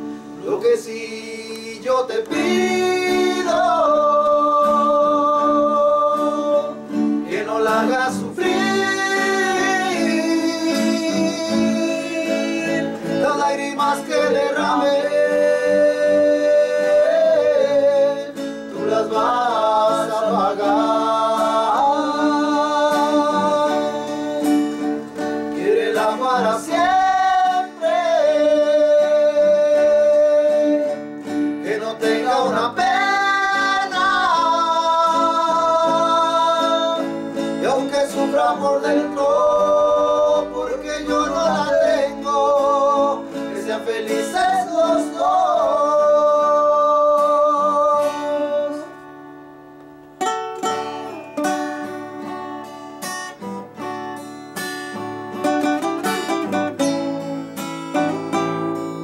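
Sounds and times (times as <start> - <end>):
men singing with vibrato: 0.0 - 49.1
acoustic guitars playing: 0.0 - 59.0.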